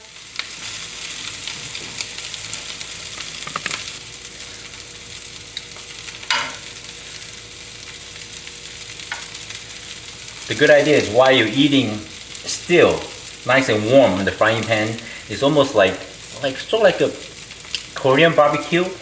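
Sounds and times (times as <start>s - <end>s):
stir-fry sizzling in a frying pan: 0.0s - 19.0s.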